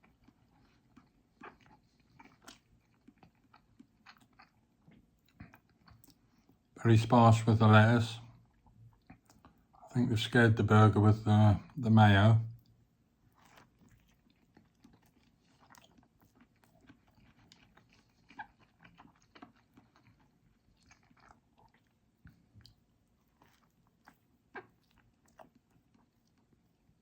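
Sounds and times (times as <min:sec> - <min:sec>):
person chewing food: 0:00.0 - 0:06.8, 0:08.4 - 0:09.9, 0:12.5 - 0:27.0.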